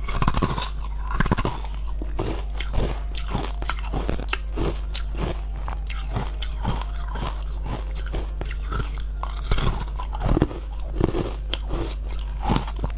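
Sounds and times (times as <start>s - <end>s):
chewing crunches: 0.0s - 12.9s
ice cracking between teeth: 0.0s - 12.9s.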